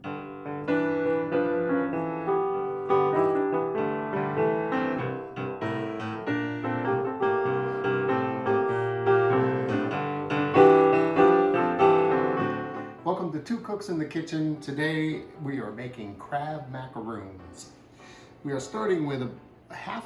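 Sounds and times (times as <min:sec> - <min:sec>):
piano music: 0:00.0 - 0:19.4.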